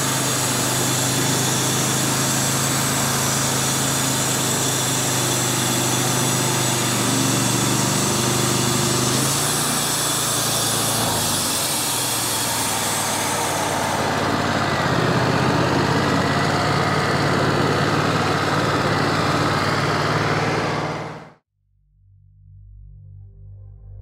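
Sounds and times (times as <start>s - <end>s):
sawmill engine running: 0.0s - 21.4s.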